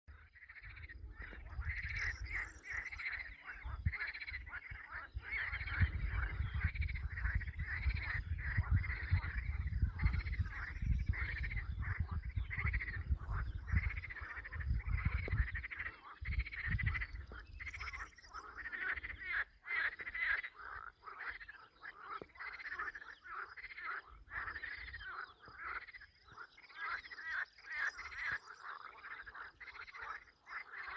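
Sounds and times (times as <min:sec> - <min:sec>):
frogs croaking: 0:00.1 - 0:30.9.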